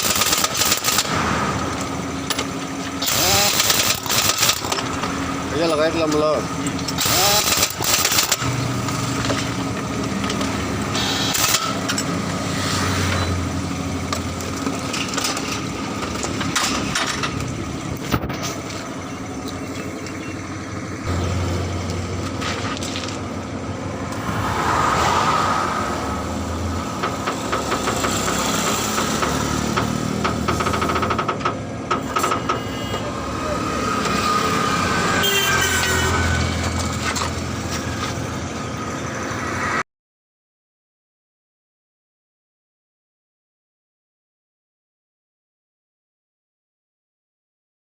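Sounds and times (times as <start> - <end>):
diesel truck engine running: 0.0 - 39.6.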